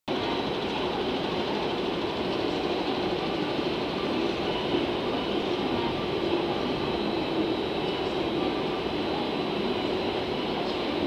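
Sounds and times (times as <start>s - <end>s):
diesel railcar rumbling: 0.1s - 11.0s.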